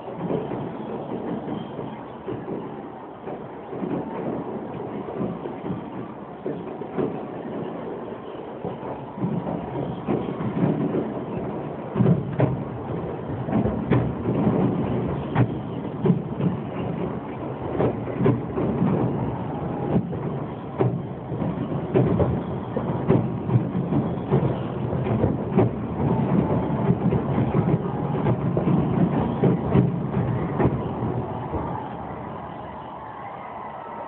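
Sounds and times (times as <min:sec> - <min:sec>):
fireworks bursting bangs: 0:00.0 - 0:33.6.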